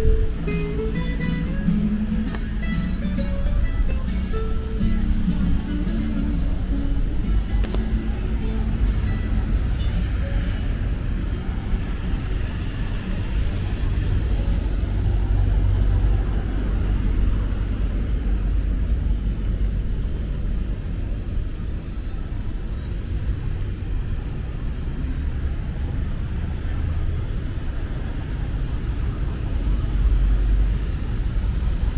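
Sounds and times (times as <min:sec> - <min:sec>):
city street traffic rumble: 0:00.0 - 0:31.9.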